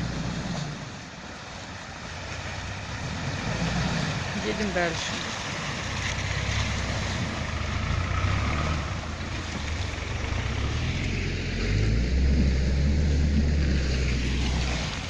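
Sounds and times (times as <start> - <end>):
vehicle engine running: 2.1 - 15.0.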